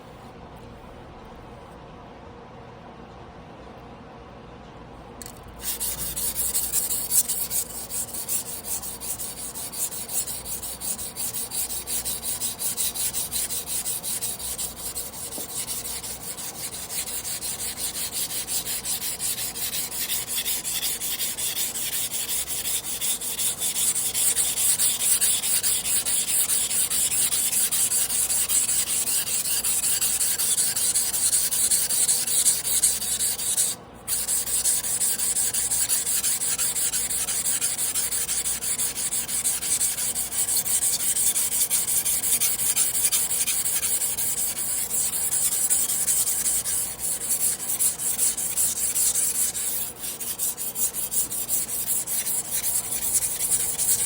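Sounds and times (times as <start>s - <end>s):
knife scraping on whetstone: 5.6s - 54.0s.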